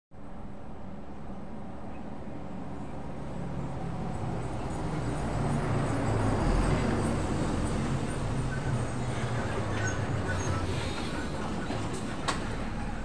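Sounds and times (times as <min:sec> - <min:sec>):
truck passing: 0:02.5 - 0:13.0.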